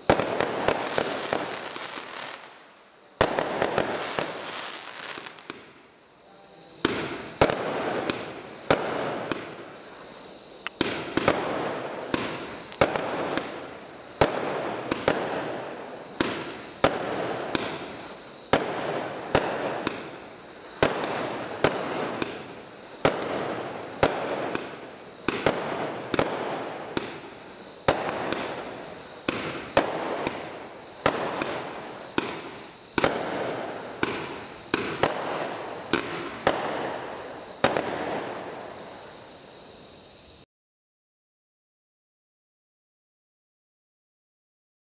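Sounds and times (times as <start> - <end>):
firework reports: 0.0 - 40.0
firework crackling hiss: 0.0 - 40.5.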